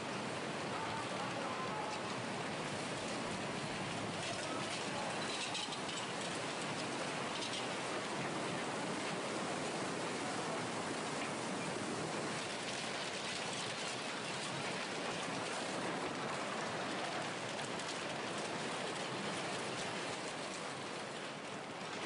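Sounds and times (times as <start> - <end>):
faint crackles: 0.0 - 22.0
floodwater rushing with debris: 0.0 - 22.0.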